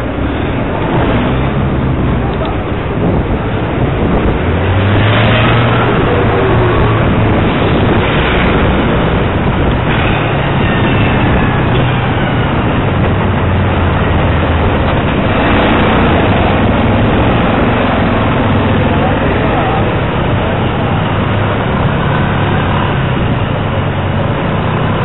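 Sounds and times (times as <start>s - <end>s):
busy city traffic noise: 0.0s - 25.0s
engines droning: 0.0s - 25.0s.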